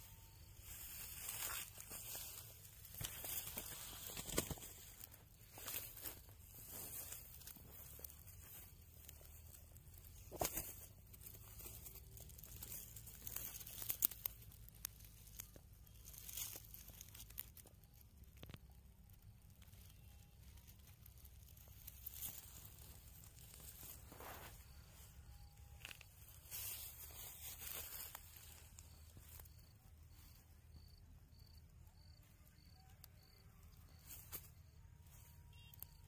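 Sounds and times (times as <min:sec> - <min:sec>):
dry straw rustling and crackling: 0:00.0 - 0:36.0.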